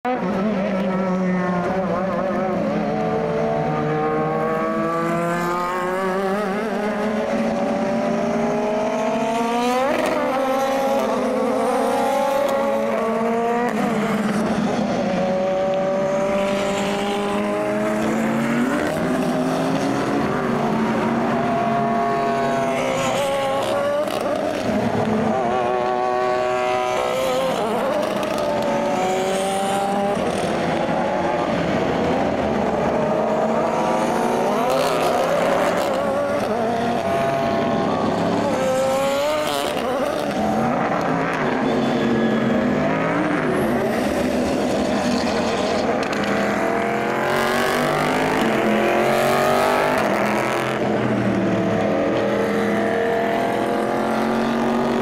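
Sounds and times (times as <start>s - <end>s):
race car engines passing: 0.1s - 55.0s.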